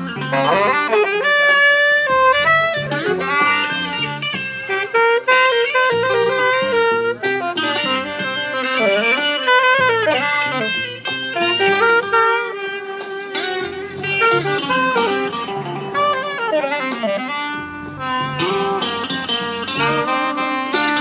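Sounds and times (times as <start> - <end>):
saxophone melody: 0.0 - 21.0
steady bass line: 0.0 - 21.0.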